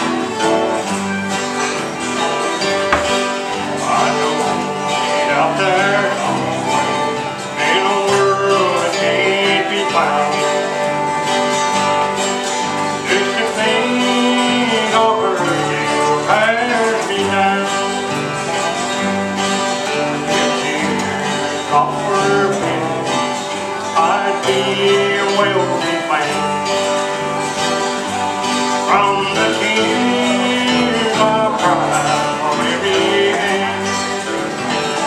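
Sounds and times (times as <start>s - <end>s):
bluegrass band instrumental: 0.0s - 35.0s.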